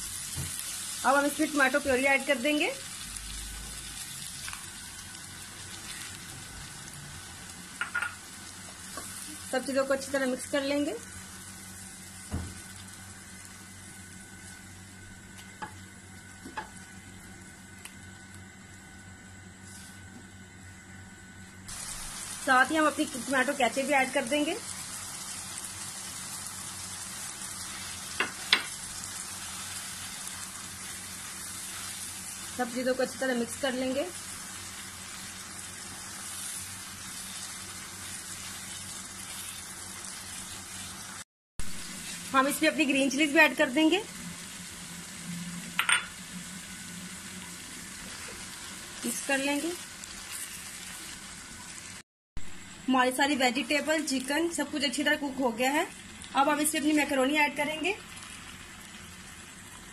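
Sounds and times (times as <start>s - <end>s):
food sizzling in a wok: 0.0s - 59.9s.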